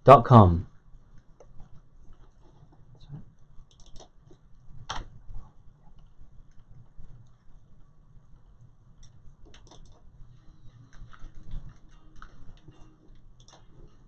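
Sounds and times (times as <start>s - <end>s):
low room hum: 0.0s - 14.0s
faint clicks and light taps: 0.7s - 14.0s.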